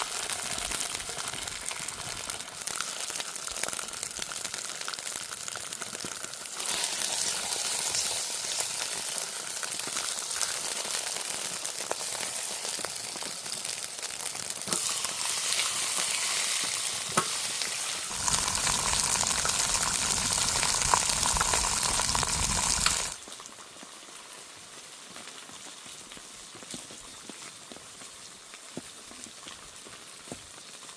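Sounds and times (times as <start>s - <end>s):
chicken sizzling in hot oil: 0.0s - 27.8s.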